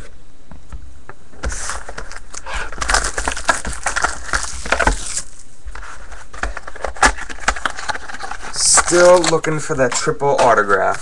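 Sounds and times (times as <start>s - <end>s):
card packaging clicks and rustles: 1.4s - 11.0s.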